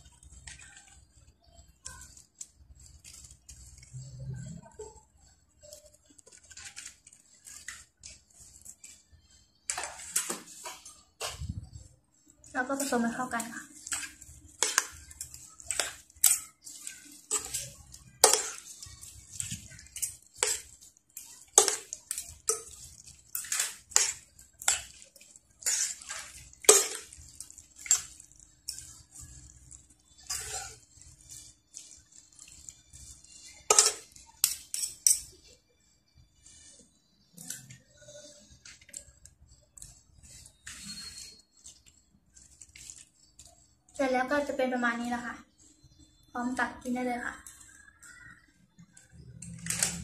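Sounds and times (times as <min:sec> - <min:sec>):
utensils scraping frying pan: 0:00.0 - 0:35.6, 0:36.3 - 0:46.2.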